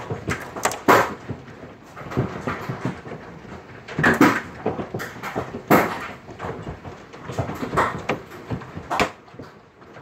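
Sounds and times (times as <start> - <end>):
hailstones knocking hard surfaces: 0.0 - 10.0.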